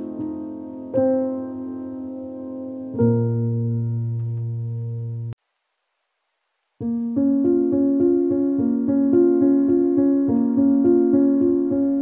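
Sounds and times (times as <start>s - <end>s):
piano music with repeated notes: 0.0s - 5.4s, 6.8s - 12.0s.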